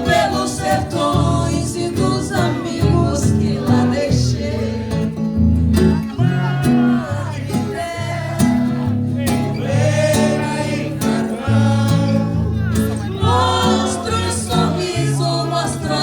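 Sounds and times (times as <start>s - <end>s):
guitar accompaniment: 0.0s - 16.0s
voices singing: 0.0s - 16.0s.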